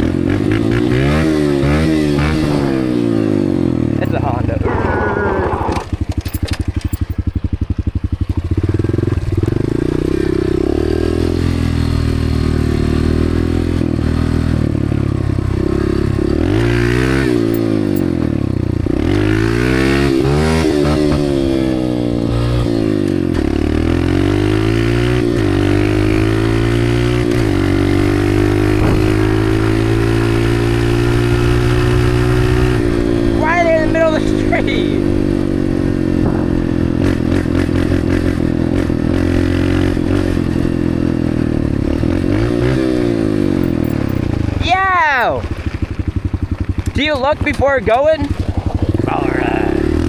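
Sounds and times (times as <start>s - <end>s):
dirt bike engine: 0.0s - 50.0s.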